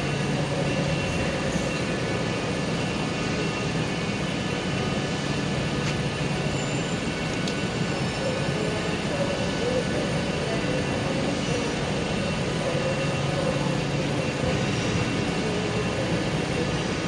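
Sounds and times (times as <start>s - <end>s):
diesel train humming: 0.0s - 17.0s.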